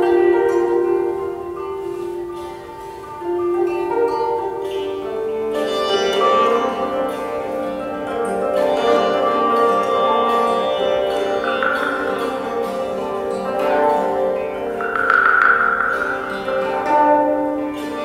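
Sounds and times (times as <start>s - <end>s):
koto: 0.0s - 18.0s
sitar: 0.0s - 18.0s.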